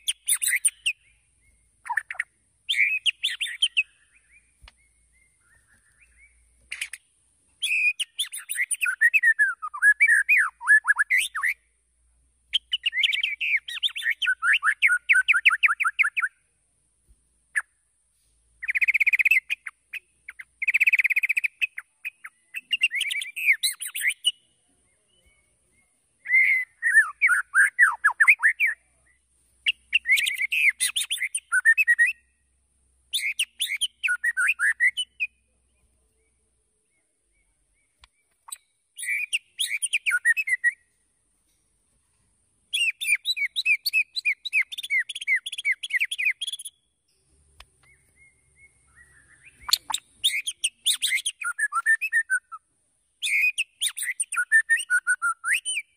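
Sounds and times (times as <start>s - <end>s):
bird singing trills and whistles: 0.0s - 11.6s, 12.5s - 16.4s, 18.6s - 32.4s, 33.1s - 40.9s, 42.7s - 47.0s, 47.7s - 55.9s.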